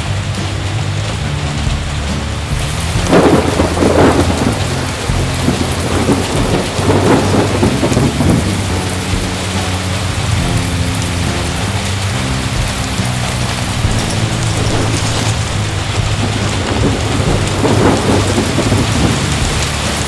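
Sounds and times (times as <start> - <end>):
heavy rain falling: 0.0 - 20.0
thunder rumbling: 0.0 - 20.0.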